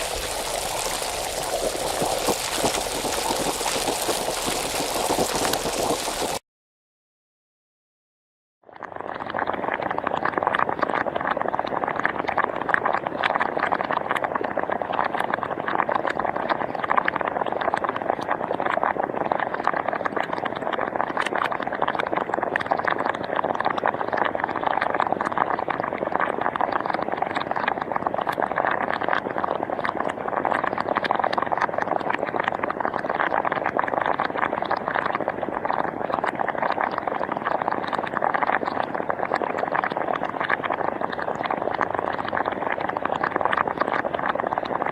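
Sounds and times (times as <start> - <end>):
hot spring bubbling: 0.0 - 6.4, 8.8 - 44.9.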